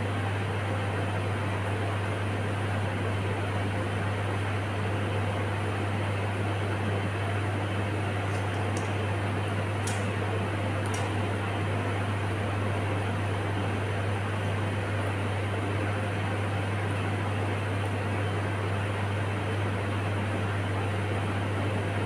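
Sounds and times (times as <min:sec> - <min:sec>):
fan humming: 0:00.0 - 0:22.0.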